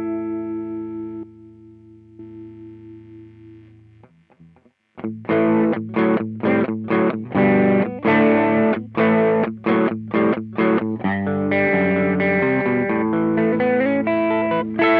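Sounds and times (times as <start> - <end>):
overdriven electric guitar chords: 0.0 - 14.9.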